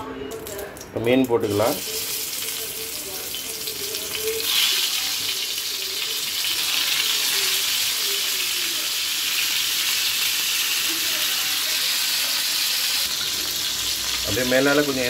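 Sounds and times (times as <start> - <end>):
fish sizzling in hot oil: 1.4 - 15.0.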